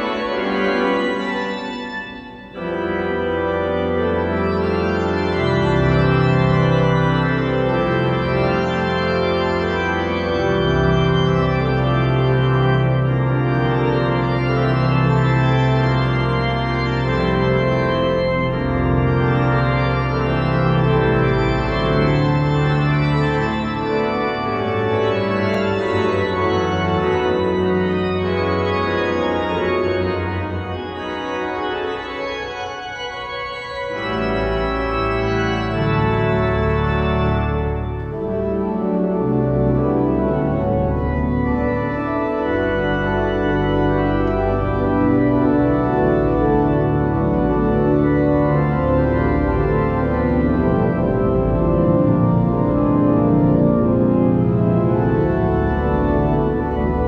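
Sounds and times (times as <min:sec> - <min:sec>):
pipe organ playing chords: 0:00.0 - 0:57.0.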